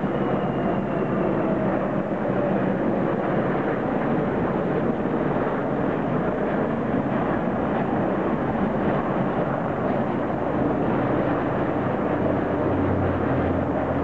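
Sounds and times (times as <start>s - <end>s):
aircraft drone in formation: 0.0s - 14.0s.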